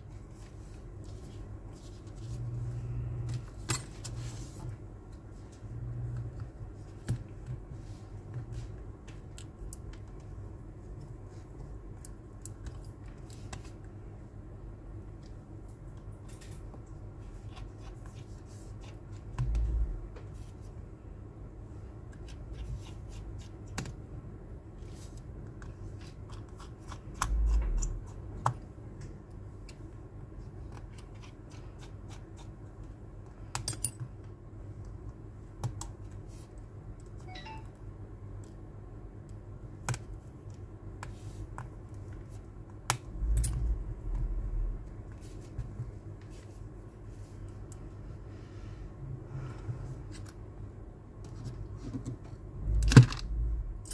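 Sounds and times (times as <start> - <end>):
steady low room hum: 0.0 - 53.9.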